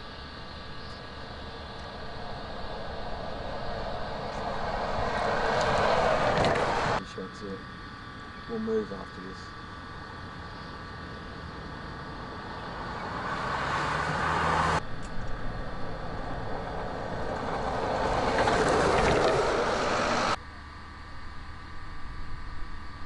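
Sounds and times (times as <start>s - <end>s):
vehicles passing at speed: 0.0s - 20.4s.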